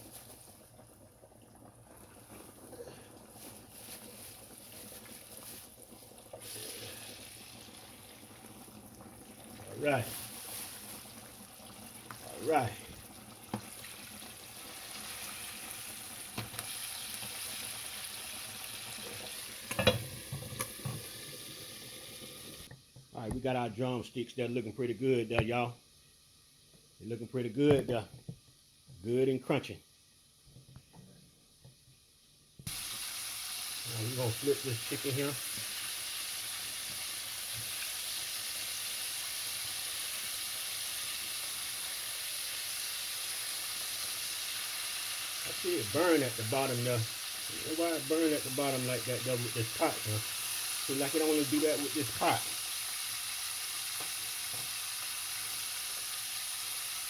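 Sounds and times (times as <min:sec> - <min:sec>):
chicken deep-frying in oil: 0:00.0 - 0:22.7, 0:32.6 - 0:57.0.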